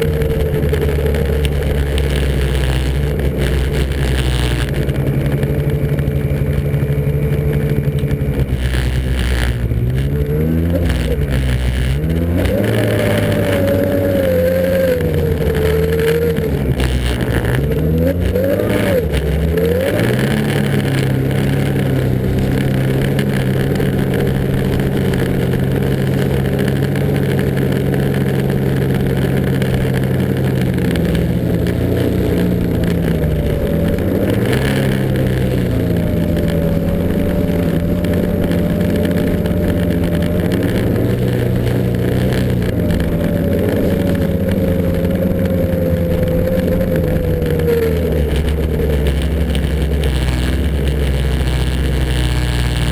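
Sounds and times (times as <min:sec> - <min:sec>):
snowmobile engine revving: 0:00.0 - 0:52.9.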